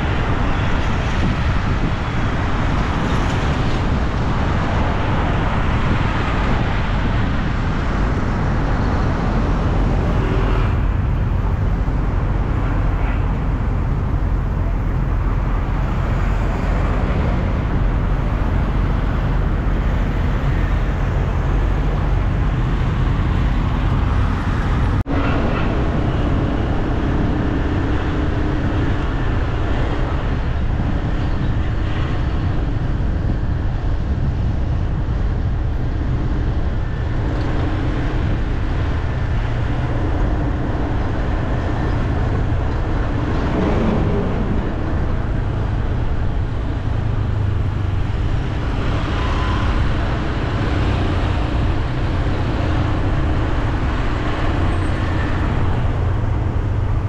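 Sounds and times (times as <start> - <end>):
passing cars and motorbikes: 0.0 - 57.0.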